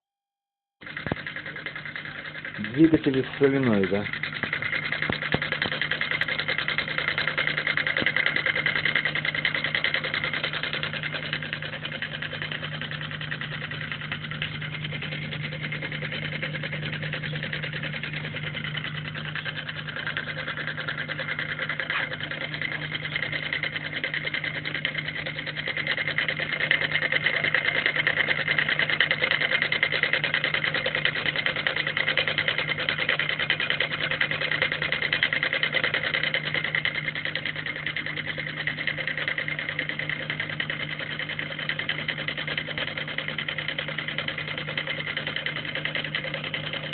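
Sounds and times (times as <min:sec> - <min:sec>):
constant low hum: 0:00.8 - 0:46.9
solenoid engine clattering: 0:00.8 - 0:46.9.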